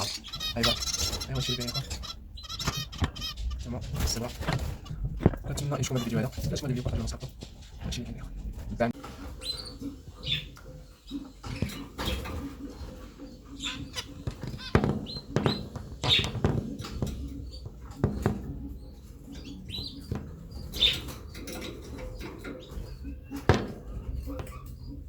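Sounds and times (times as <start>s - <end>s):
finches chirping: 0.0s - 8.1s, 8.8s - 25.0s.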